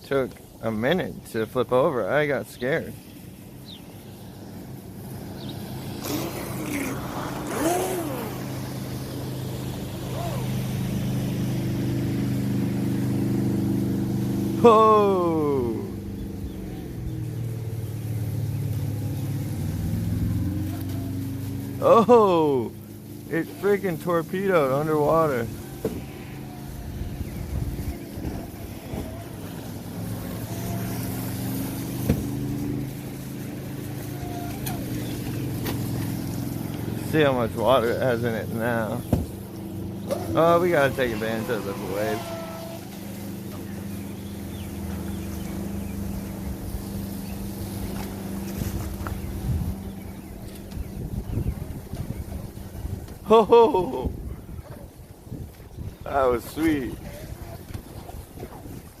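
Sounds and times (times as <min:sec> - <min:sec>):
rc boat motor droning: 0:00.0 - 0:59.0.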